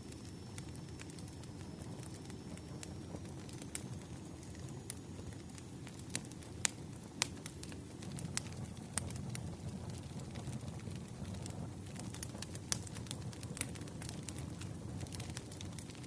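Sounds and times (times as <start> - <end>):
campfire crackling and popping: 0.0 - 16.0
low rumble of burning wood: 0.0 - 16.0.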